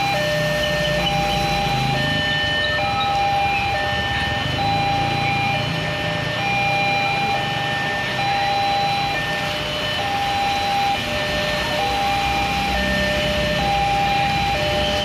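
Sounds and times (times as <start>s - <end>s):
car engines passing: 0.0s - 15.0s
level-crossing two-tone alarm: 0.0s - 15.0s
motorbike engines passing: 0.0s - 15.0s.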